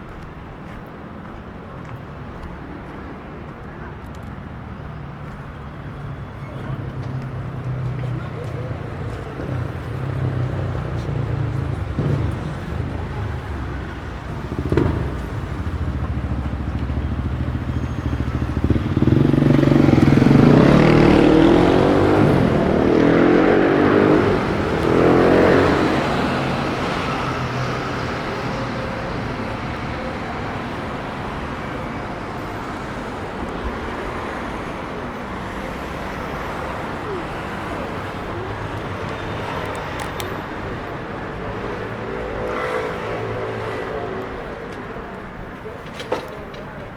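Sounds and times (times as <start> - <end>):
city street traffic: 0.0 - 46.9
motor vehicle passing close: 7.2 - 46.6.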